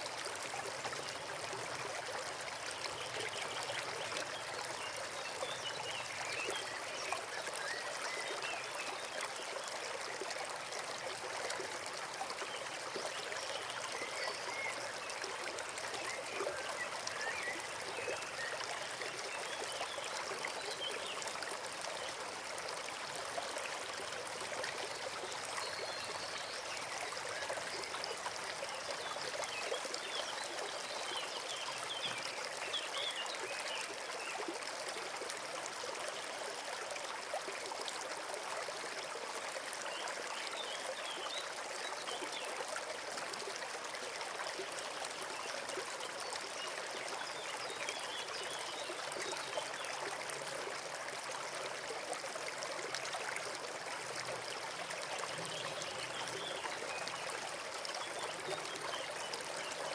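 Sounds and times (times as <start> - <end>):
brook trickling: 0.0 - 59.9.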